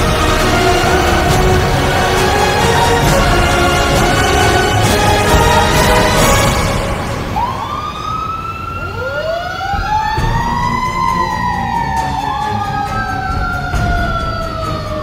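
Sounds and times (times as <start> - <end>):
fire engine siren wailing: 0.0 - 15.0
truck engine rumble: 0.0 - 15.0.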